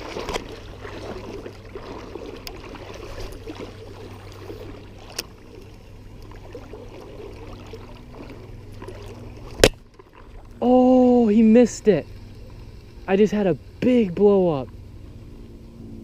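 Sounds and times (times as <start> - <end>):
river water flowing and lapping: 0.0 - 16.0.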